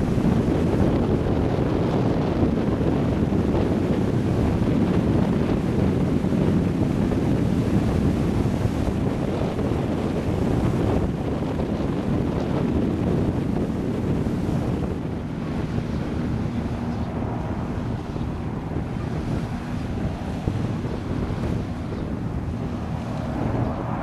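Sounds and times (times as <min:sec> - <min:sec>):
hovercraft engines roaring: 0:00.0 - 0:24.0
wind buffeting microphone: 0:00.0 - 0:24.0.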